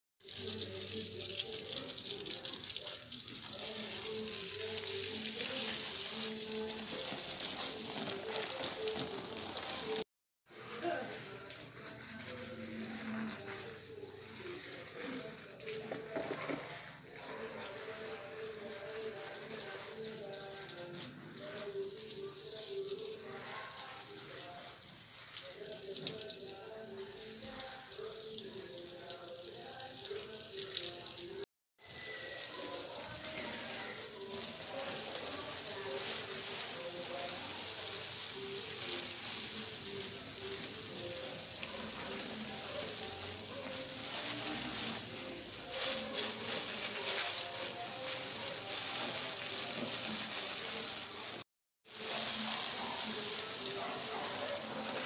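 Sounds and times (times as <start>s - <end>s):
garden hose spraying water: 0.2s - 55.0s.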